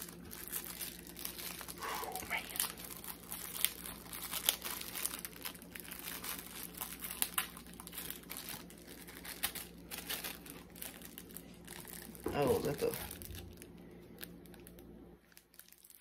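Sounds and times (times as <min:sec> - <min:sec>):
candy wrapper crinkling and tearing: 0:00.0 - 0:16.0.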